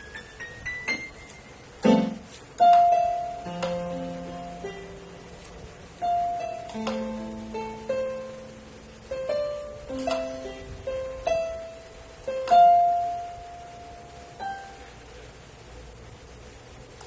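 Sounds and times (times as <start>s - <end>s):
electronic keyboard slow melody: 0.0s - 15.5s.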